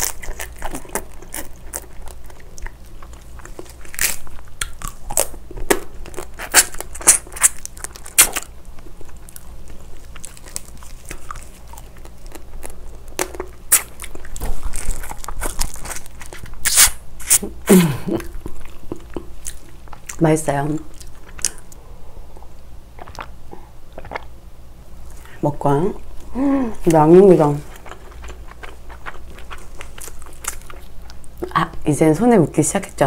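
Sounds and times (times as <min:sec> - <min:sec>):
person biting and chewing: 0:00.0 - 0:20.2, 0:20.9 - 0:21.8, 0:22.4 - 0:24.4, 0:27.6 - 0:31.5.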